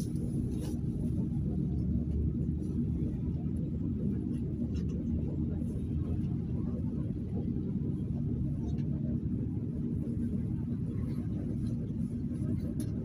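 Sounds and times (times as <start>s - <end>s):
bus engine idling low: 0.0s - 13.0s.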